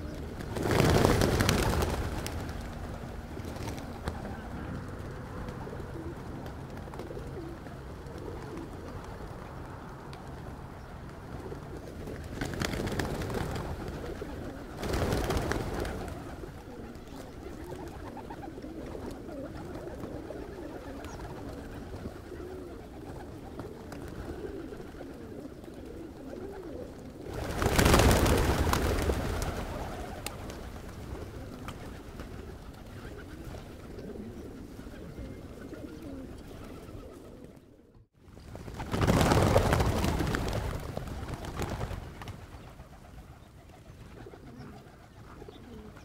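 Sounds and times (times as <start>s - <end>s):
wings flapping: 0.0s - 37.7s, 38.3s - 46.0s
pigeons cooing: 0.0s - 38.1s, 39.0s - 46.0s.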